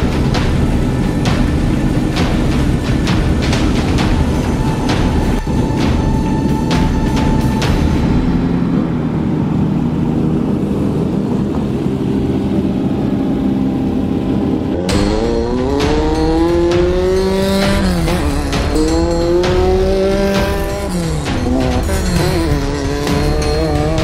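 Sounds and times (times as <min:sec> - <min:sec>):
race vehicle engine accelerating: 0:00.0 - 0:24.0.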